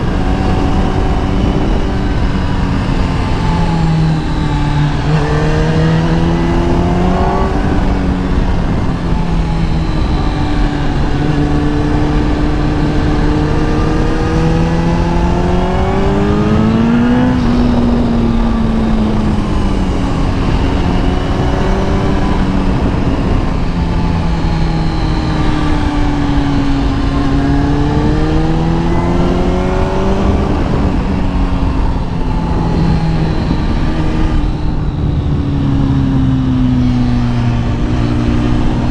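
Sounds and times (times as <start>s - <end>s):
motorcycle engine revving: 0.0s - 38.9s
wind rush over microphone: 0.0s - 38.9s.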